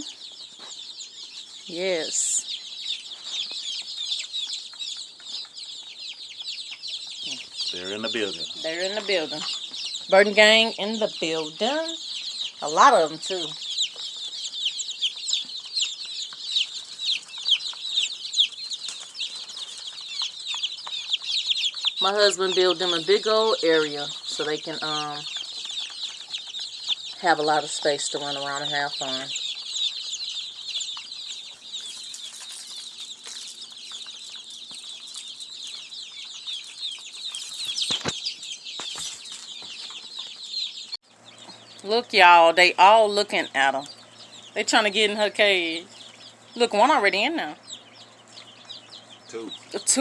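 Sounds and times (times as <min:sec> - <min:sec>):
chicks peeping: 0:00.0 - 0:50.0.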